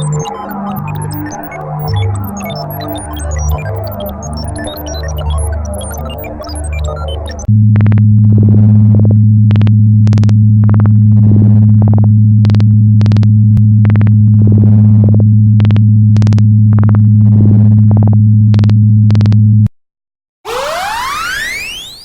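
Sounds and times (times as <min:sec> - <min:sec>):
sharp electronic clicks: 0:00.0 - 0:19.4, 0:20.5 - 0:22.0
low electronic hum: 0:00.0 - 0:19.7.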